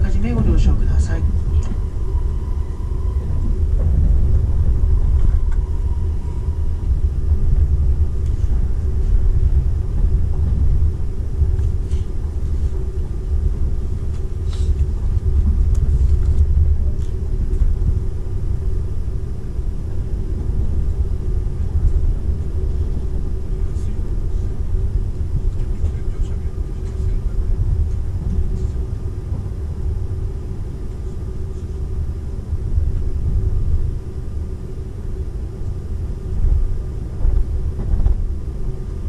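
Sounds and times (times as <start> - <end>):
steady hum: 0.0 - 39.0
train wheels rumbling on rails: 0.0 - 39.0.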